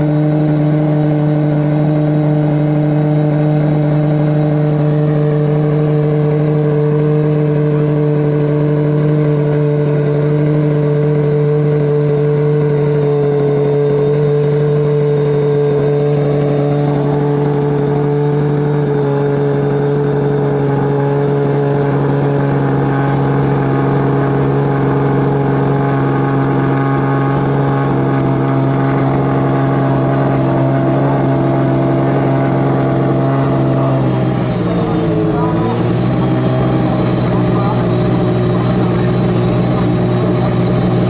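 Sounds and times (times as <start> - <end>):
race car engine at high revs: 0.0 - 41.0.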